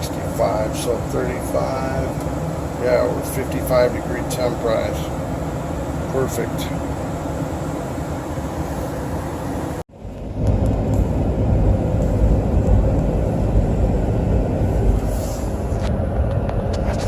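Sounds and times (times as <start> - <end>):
furnace blower air rush: 0.0 - 17.0
steady low rumble: 0.0 - 17.0.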